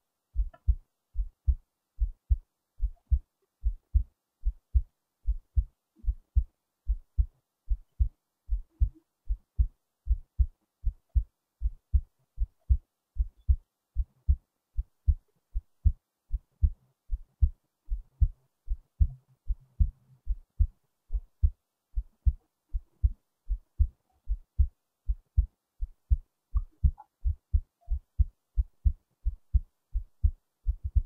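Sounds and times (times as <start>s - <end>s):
heartbeat thumps: 0.4s - 31.0s.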